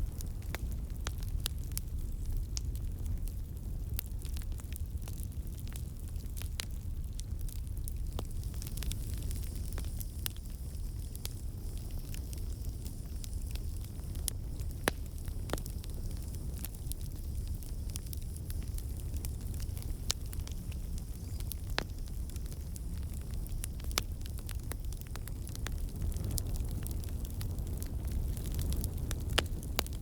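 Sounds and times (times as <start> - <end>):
campfire flames rumbling: 0.0 - 30.0
wood crackling and popping: 0.0 - 30.0.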